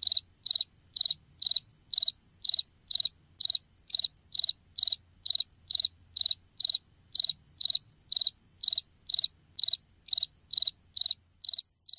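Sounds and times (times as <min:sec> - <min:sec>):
cricket chirping: 0:00.0 - 0:11.9
faint high-pitched insect trill: 0:00.0 - 0:11.9.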